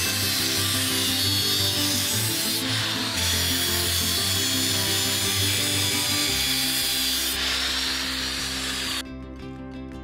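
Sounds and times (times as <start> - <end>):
angle grinder cutting steel: 0.0 - 9.0.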